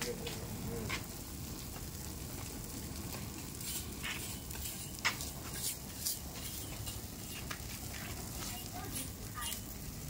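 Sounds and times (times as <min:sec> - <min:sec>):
sharp pops of fire: 0:00.0 - 0:10.0
wood fire crackling and sizzling: 0:00.0 - 0:10.0.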